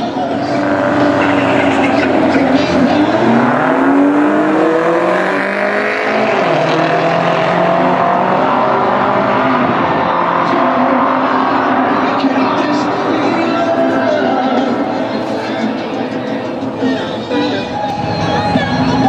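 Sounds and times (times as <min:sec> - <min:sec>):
cars accelerating hard: 0:00.0 - 0:19.0.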